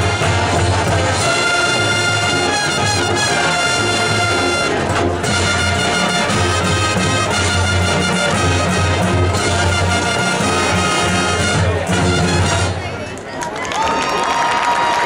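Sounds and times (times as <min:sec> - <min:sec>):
marching percussion: 0:00.0 - 0:12.9
brass chords: 0:00.0 - 0:13.0.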